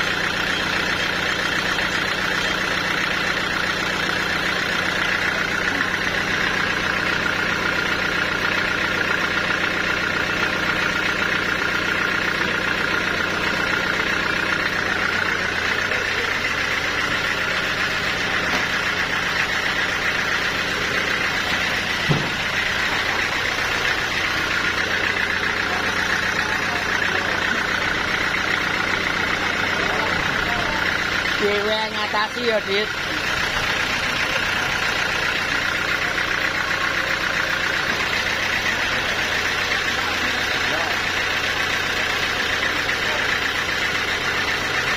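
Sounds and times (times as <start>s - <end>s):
sawmill machinery drone: 0.0s - 44.9s.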